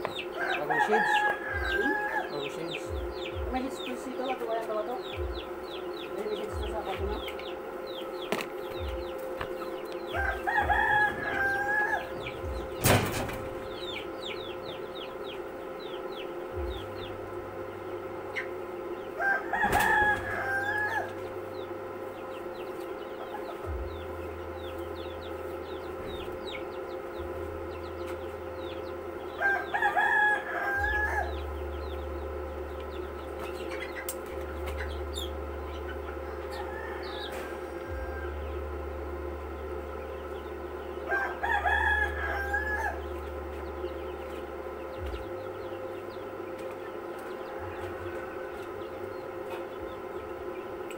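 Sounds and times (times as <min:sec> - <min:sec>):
rooster crowing: 0:00.0 - 0:03.4, 0:05.0 - 0:27.3, 0:28.1 - 0:33.4, 0:35.0 - 0:46.0, 0:47.2 - 0:50.6
faint hum: 0:00.0 - 0:50.9.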